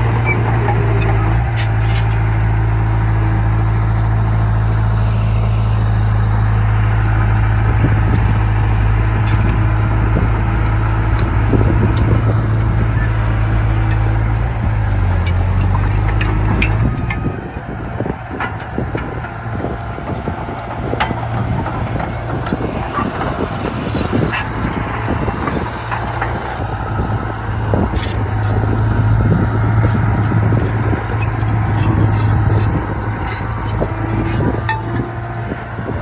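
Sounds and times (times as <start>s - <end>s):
metallic clanks and squeaks: 0.0s - 2.4s, 7.0s - 36.0s
bulldozer diesel engine running: 0.0s - 36.0s.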